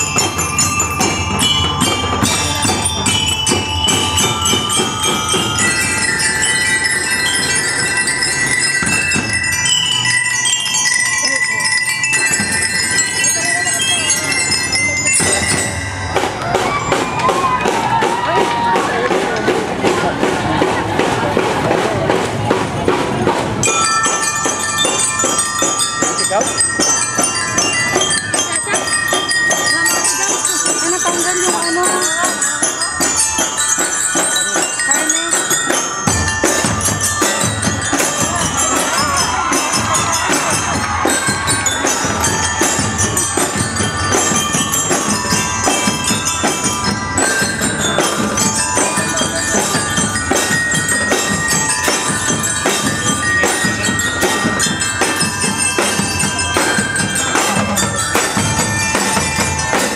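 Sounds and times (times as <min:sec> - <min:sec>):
bell lyres ringing melody: 0:00.0 - 0:59.9
drums beating: 0:00.0 - 0:59.9.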